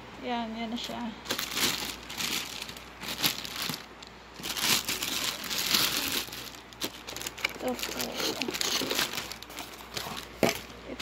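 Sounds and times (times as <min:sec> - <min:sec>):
plastic bag crinkling: 0:00.8 - 0:11.0.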